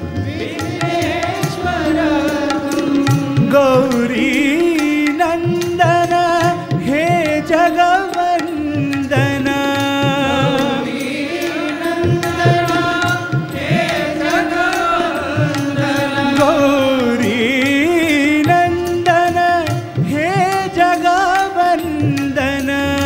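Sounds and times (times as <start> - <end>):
devotional singing: 0.0 - 23.0
tabla beats: 0.0 - 23.0.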